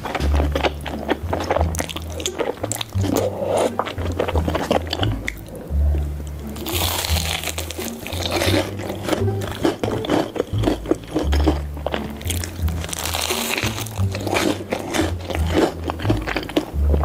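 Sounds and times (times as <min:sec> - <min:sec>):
crunchy bite: 0:00.0 - 0:05.6, 0:06.4 - 0:17.0
chewing with wet clicks: 0:00.0 - 0:17.0
music with deep bass line: 0:00.0 - 0:17.0.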